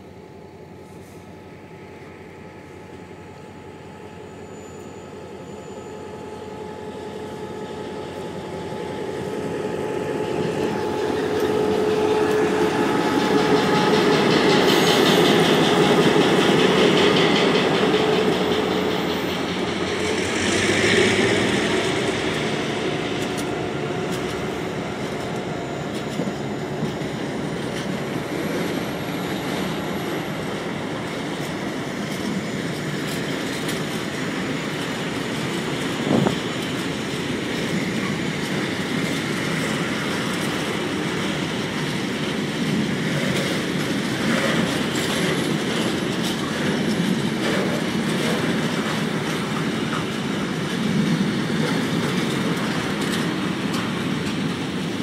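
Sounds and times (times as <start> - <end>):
diesel locomotive engine: 0.0 - 55.0
train wheels clickety-clack: 6.1 - 55.0.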